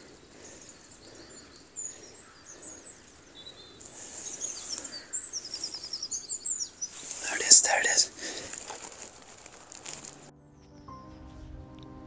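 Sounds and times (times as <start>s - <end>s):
songbirds chirping and whistling: 0.0s - 10.3s
faint outdoor background noise: 0.0s - 12.0s.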